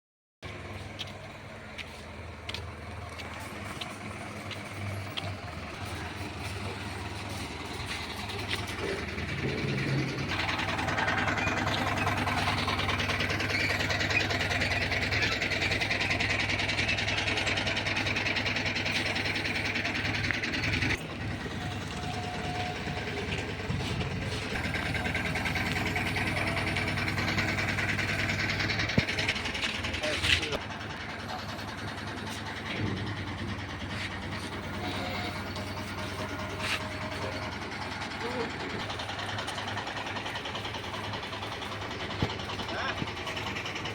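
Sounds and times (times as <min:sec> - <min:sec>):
low motor hum: 0:00.4 - 0:43.9
machinery rushing noise: 0:03.6 - 0:43.9.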